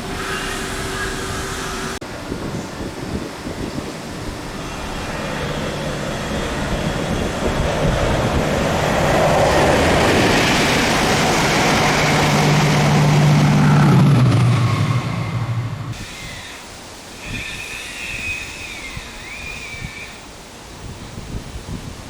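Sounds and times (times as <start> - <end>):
diesel train passing: 0.0 - 18.6.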